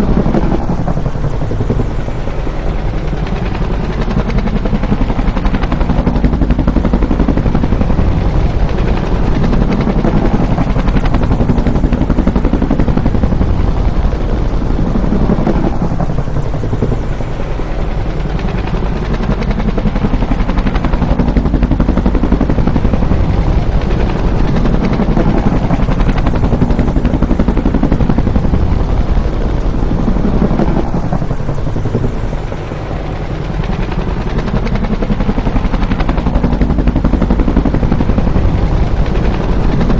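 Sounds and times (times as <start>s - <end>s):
helicopter engine noise: 0.0s - 39.9s
helicopter rotor thumping: 0.0s - 39.9s.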